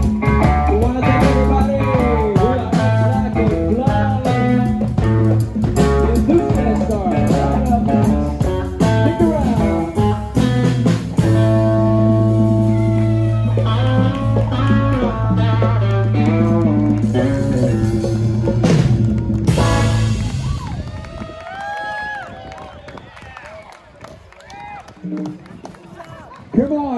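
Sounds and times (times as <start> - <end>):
drum kit: 0.0 - 21.8
electric guitar: 0.0 - 21.8
bass: 0.0 - 25.8.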